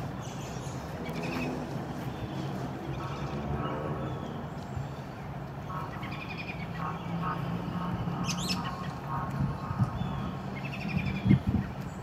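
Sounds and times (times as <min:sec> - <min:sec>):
songbirds calling: 0:00.0 - 0:12.0.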